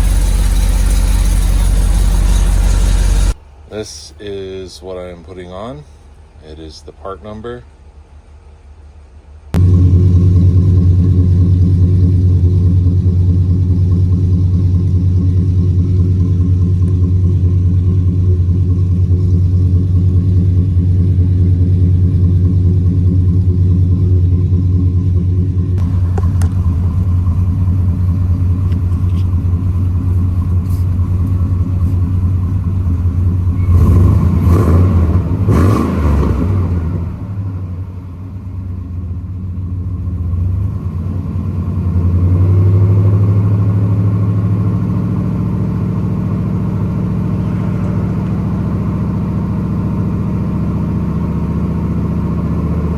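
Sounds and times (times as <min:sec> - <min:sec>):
truck engine idling: 0:00.0 - 0:33.9, 0:37.1 - 0:42.0, 0:43.0 - 0:52.9.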